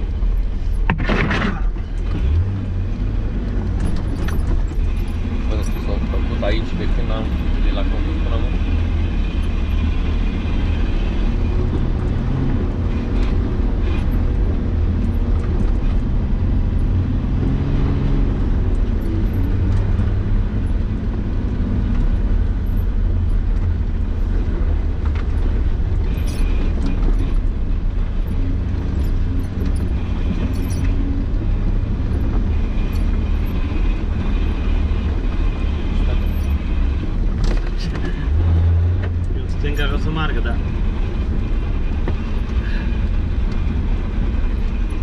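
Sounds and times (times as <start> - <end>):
vehicle engine drone: 0.0 - 45.0.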